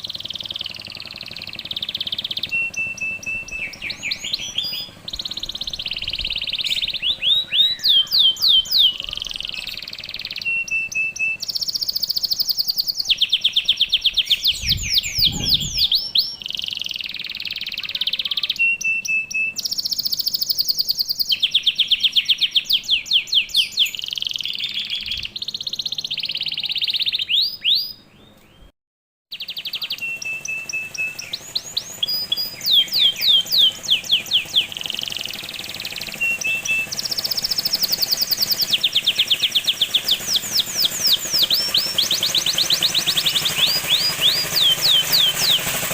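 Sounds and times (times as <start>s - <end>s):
canary singing in rapid trills: 0.0s - 28.7s, 29.3s - 45.9s.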